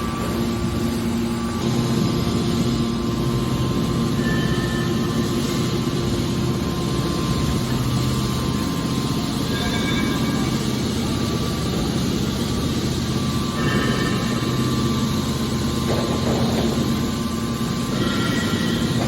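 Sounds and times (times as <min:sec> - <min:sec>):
hydraulic baler machine hum: 0:00.0 - 0:19.0.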